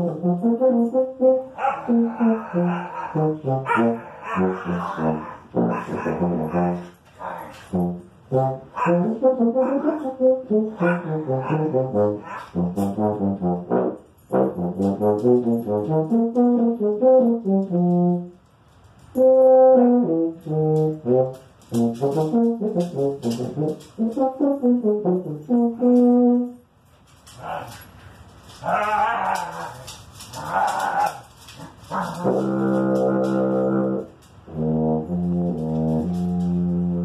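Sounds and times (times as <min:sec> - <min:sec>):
tuba melody: 0:00.0 - 0:27.4, 0:31.3 - 0:37.0.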